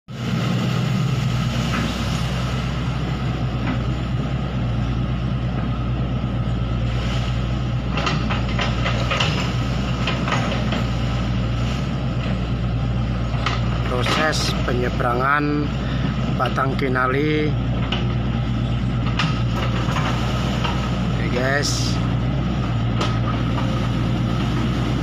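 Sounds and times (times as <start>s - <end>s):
diesel engine running: 0.1s - 25.0s.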